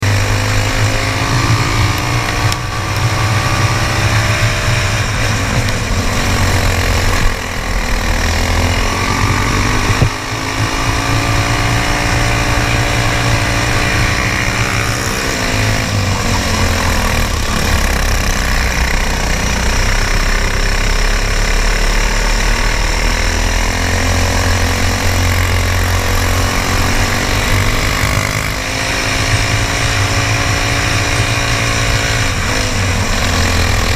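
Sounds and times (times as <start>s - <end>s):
kart engines running hard: 0.0s - 33.9s.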